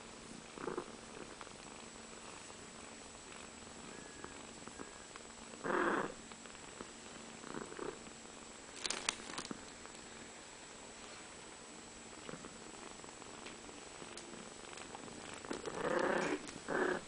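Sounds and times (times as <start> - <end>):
cats purring: 0.0 - 17.0.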